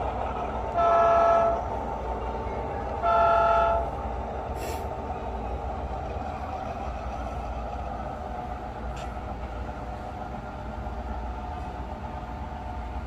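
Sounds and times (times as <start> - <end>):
model locomotive diesel drone: 0.0 - 13.0.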